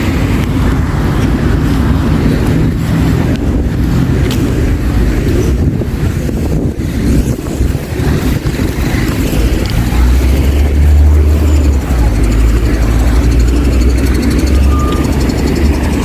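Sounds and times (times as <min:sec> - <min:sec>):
deep heavy engine rumble: 0:00.0 - 0:16.0
vehicles rumbling past: 0:00.0 - 0:16.0.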